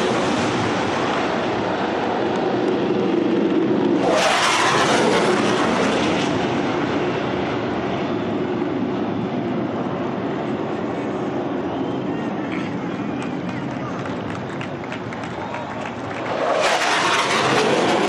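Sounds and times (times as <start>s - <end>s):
jet engine roaring overhead: 0.0s - 18.0s.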